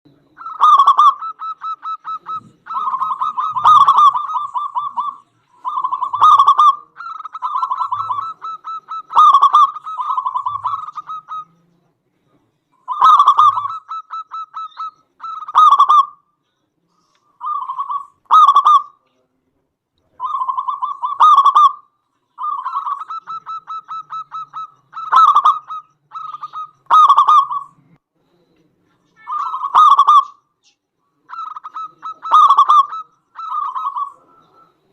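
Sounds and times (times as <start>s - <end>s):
dove cooing: 0.1s - 11.6s, 12.9s - 16.2s, 17.3s - 19.0s, 20.1s - 21.8s, 22.4s - 27.9s, 29.3s - 30.4s, 31.2s - 34.9s.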